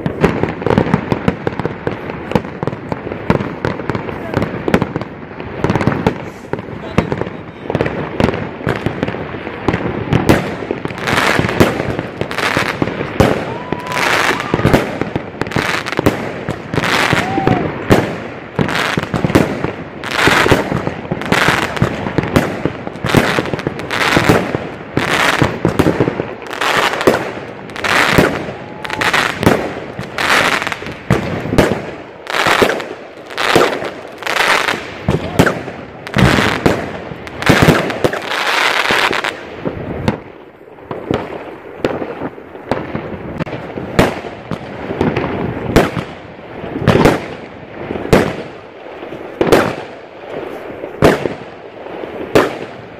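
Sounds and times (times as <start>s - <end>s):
fireworks bangs: 0.0s - 52.9s
fireworks crackling: 0.0s - 52.9s.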